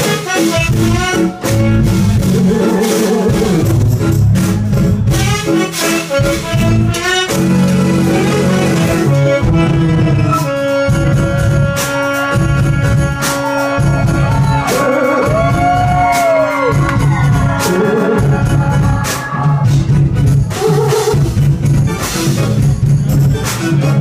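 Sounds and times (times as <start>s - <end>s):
jazz fusion band playing: 0.0s - 24.0s.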